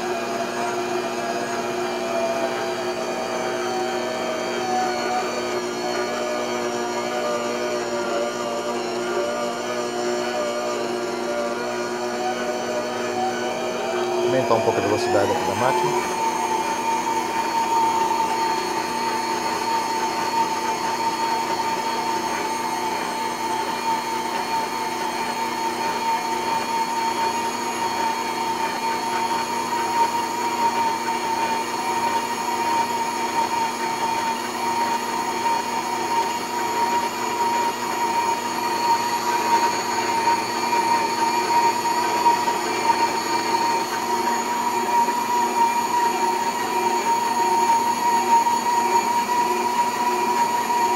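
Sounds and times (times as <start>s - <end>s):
stand mixer motor whine: 0.0s - 50.9s.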